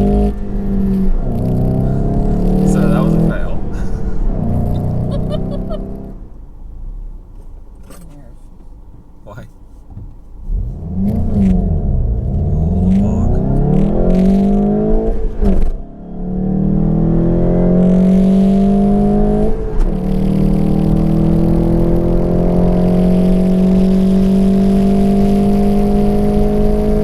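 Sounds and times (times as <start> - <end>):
car engine revving and accelerating: 0.0 - 27.0.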